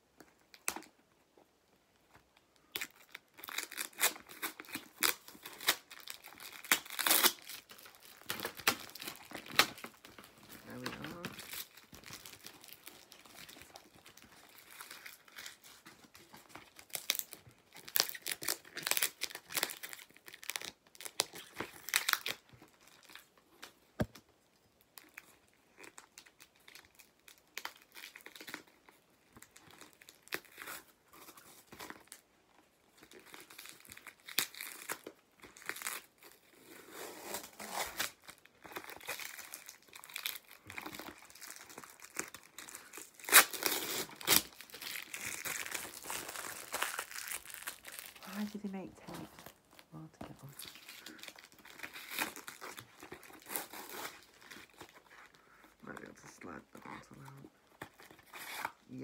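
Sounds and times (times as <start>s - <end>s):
packaging crinkling and tearing: 0.2s - 1.0s, 2.0s - 59.0s.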